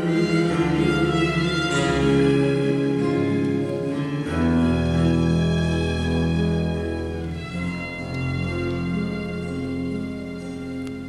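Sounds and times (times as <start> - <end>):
bowed strings holding long notes: 0.0 - 11.0.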